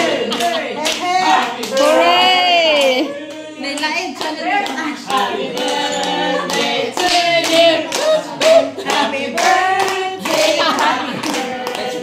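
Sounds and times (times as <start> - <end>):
group of people singing: 0.0 - 12.0
rhythmic clapping: 0.0 - 12.0.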